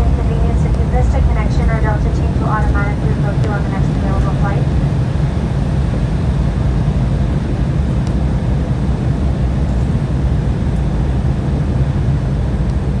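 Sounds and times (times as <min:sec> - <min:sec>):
jet cabin low rumble: 0:00.0 - 0:13.0.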